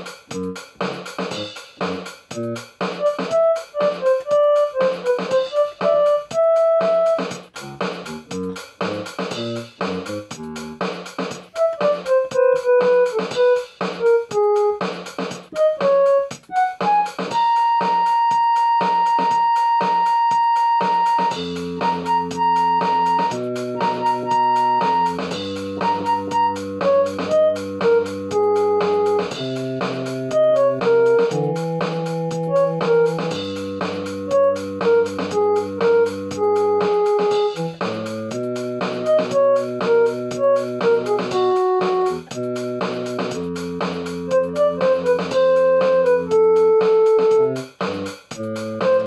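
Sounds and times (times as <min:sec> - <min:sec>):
drum machine beat: 0:00.0 - 0:49.0
electronic keyboard melody: 0:03.0 - 0:07.3, 0:11.6 - 0:14.9, 0:15.5 - 0:47.6, 0:48.4 - 0:49.0.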